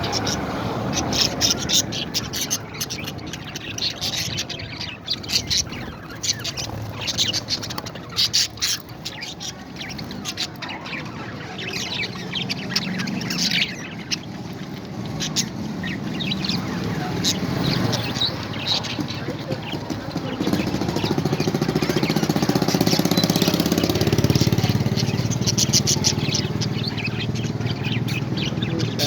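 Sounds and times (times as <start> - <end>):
parrots squawking and chirping: 0.0 - 29.0.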